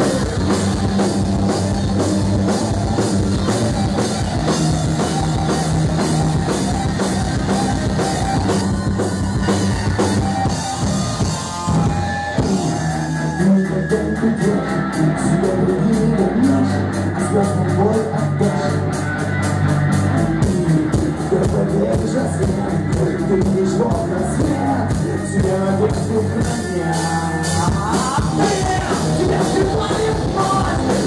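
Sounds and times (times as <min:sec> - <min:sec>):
drum kit: 0:00.0 - 0:31.0
rock band playing: 0:00.0 - 0:31.0.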